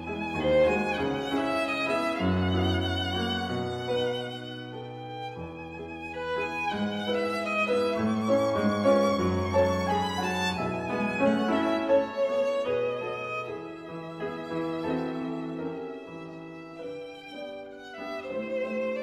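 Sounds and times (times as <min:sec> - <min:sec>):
violin melody with vibrato: 0:00.0 - 0:19.0.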